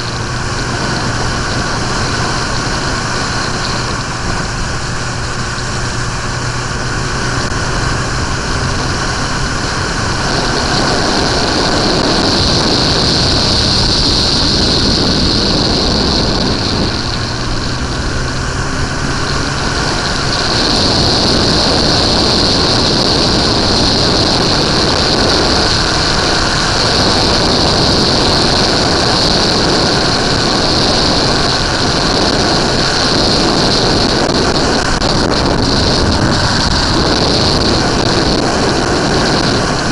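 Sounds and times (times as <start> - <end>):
loud rushing noise: 0.0 - 39.9
motorcycle engine running: 0.0 - 39.9.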